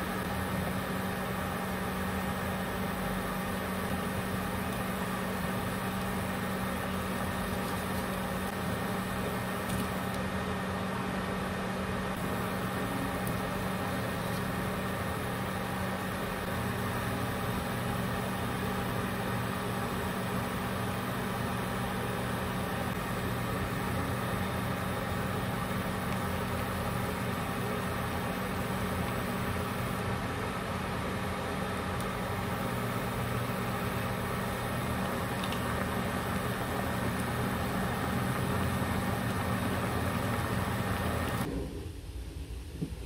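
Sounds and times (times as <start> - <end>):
broth boiling in a pan: 0.0 - 41.5
induction cooker humming: 0.0 - 43.0.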